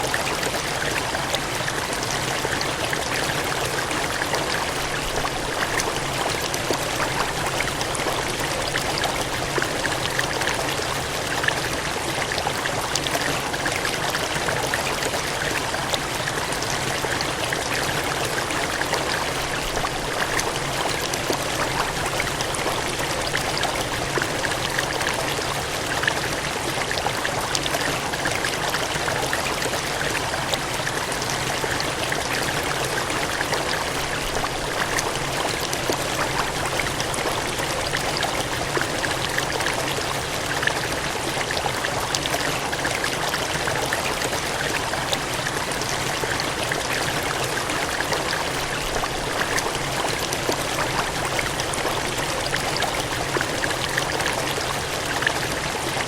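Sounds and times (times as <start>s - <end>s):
water gushing and splashing: 0.0s - 56.0s.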